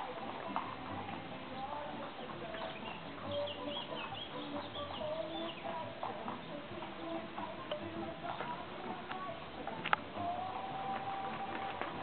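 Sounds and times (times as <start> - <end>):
birds calling: 0.8 - 12.0.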